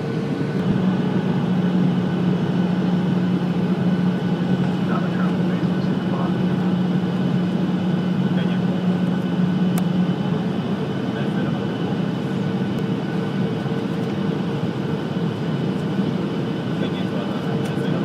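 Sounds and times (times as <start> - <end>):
airliner cabin noise: 0.0 - 18.0
low engine hum: 0.0 - 18.0.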